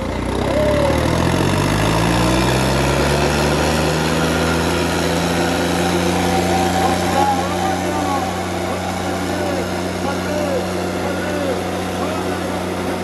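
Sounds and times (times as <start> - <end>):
tractor diesel engine straining: 0.0 - 13.0.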